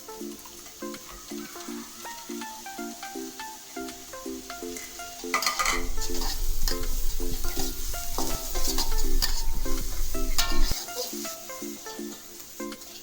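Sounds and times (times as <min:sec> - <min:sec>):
food sizzling in a pan: 0:00.0 - 0:13.0
spatula scraping a pan: 0:00.3 - 0:03.0, 0:04.5 - 0:13.0.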